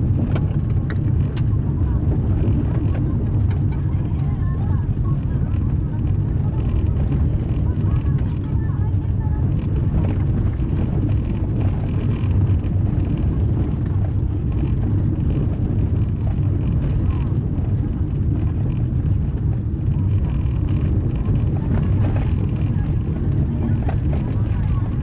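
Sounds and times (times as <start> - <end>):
tyres rumbling on gravel: 0.0 - 25.0.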